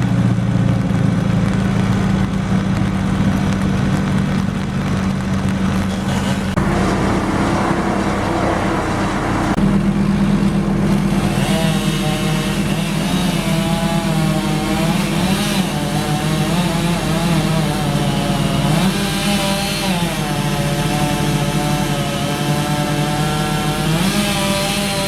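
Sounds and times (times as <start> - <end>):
machinery engine running: 0.0 - 25.0.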